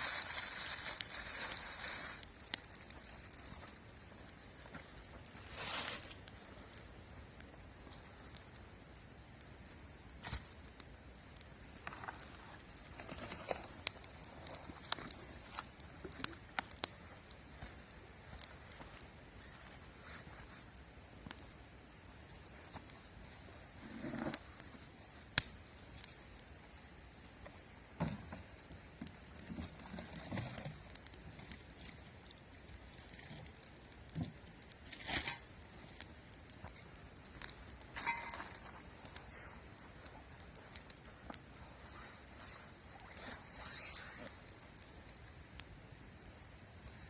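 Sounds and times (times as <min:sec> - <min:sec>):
rustling and crinkling: 0:00.0 - 0:47.0.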